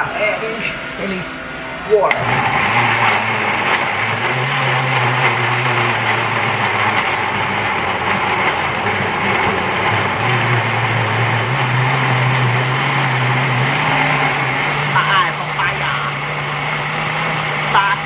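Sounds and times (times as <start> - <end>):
blender running: 0.0 - 18.0.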